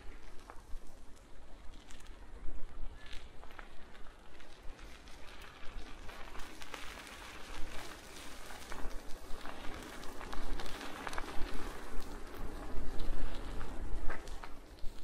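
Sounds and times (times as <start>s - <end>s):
bicycle tyres rolling on path: 0.0s - 15.0s
crackles clicks and rattles: 0.0s - 15.0s
wind rumbling on microphone: 0.0s - 15.0s.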